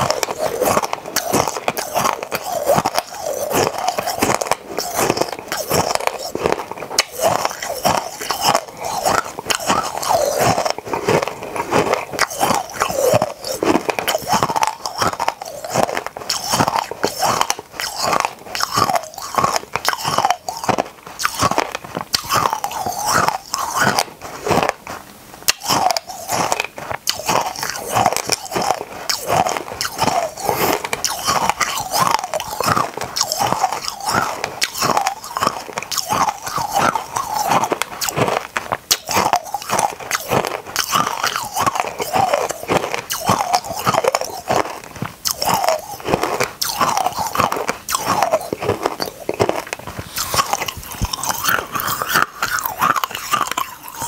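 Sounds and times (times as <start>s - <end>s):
crunching hard candies: 0.0s - 54.0s.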